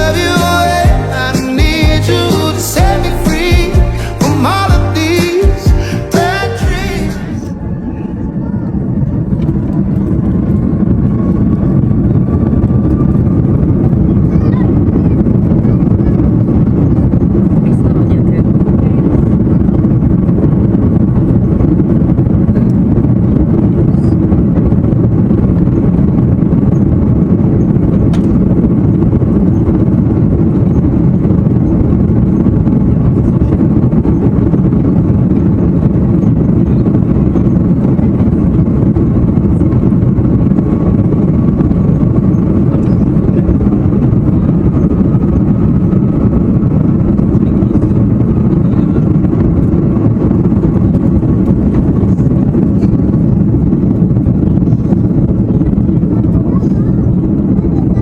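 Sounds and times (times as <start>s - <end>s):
jet engines rumbling in cabin: 0.0s - 58.0s
rushing air: 0.0s - 58.0s.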